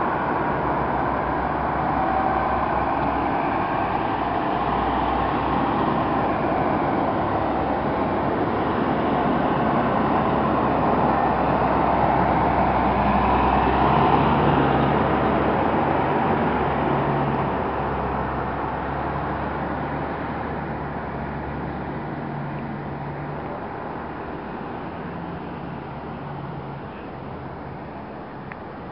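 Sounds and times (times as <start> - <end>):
fire trucks passing: 0.0 - 28.9.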